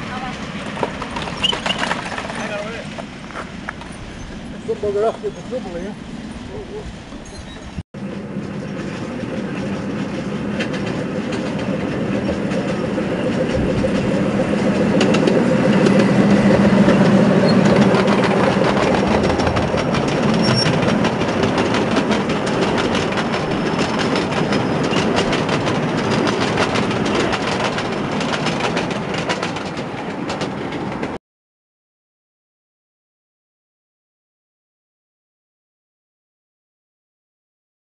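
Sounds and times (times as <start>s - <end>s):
miniature train passing: 0.0s - 31.2s
wheels clicking over rail joints: 0.0s - 31.2s.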